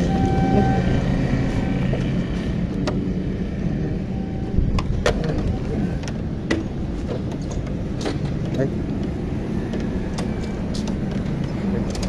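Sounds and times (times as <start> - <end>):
motor vehicle engine rumbling: 0.0 - 12.0.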